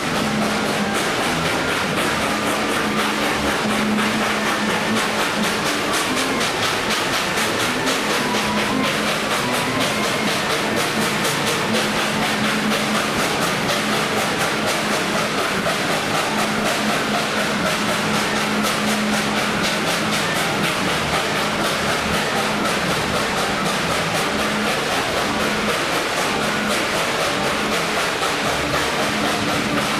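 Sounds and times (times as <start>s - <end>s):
steam train rumble and rail clatter: 0.0s - 29.9s.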